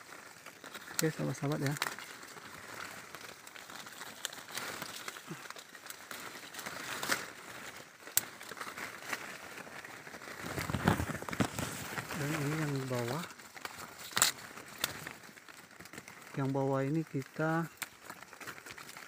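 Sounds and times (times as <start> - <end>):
leaves and branches rustling: 0.0 - 19.0.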